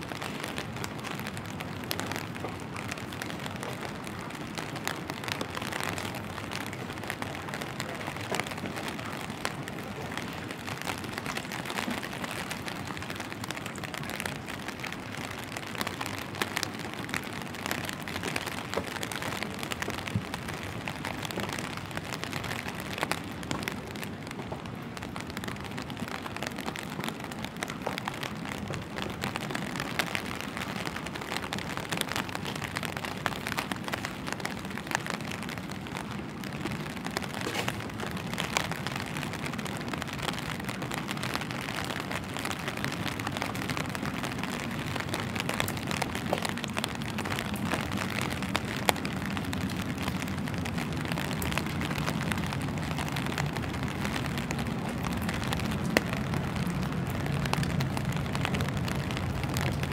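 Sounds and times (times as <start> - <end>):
steady rain on wet ground: 0.0 - 59.9.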